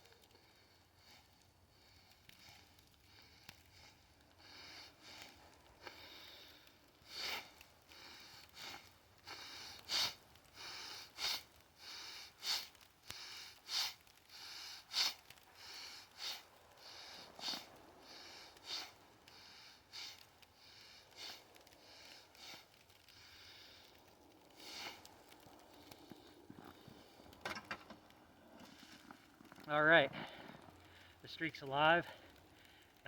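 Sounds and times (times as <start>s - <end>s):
person breathing sharply through nose: 0.1s - 27.4s.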